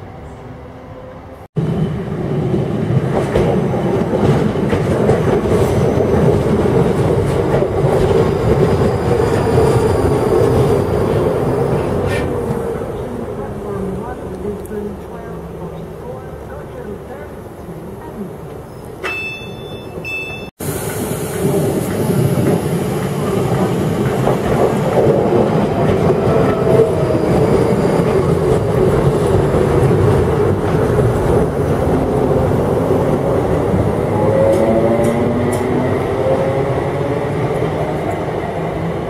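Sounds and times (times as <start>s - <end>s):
train wheels rumbling on rails: 1.5s - 39.0s.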